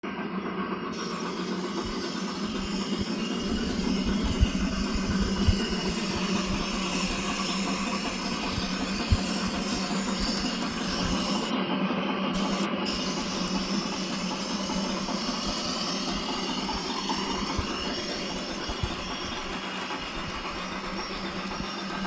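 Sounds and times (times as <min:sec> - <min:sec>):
model locomotive hiss and running note: 0:00.1 - 0:22.0.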